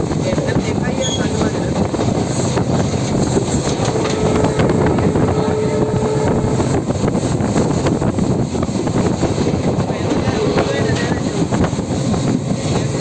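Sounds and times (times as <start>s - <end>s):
train wheels rumbling on track: 0.0s - 13.0s
wind over microphone: 0.0s - 13.0s.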